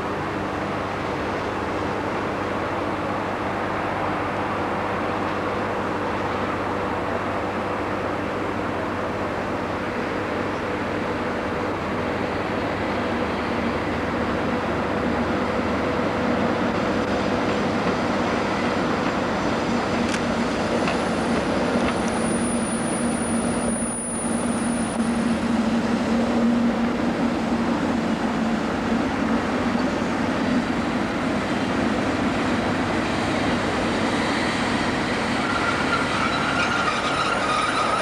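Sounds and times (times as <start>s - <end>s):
diesel locomotive passing: 0.0s - 38.0s.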